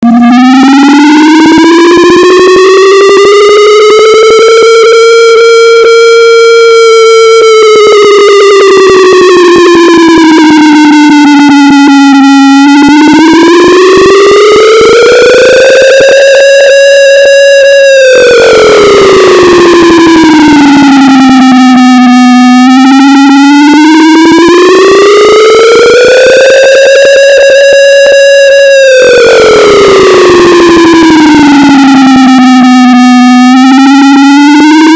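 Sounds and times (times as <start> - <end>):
distorted air raid siren wailing: 0.0 - 34.9.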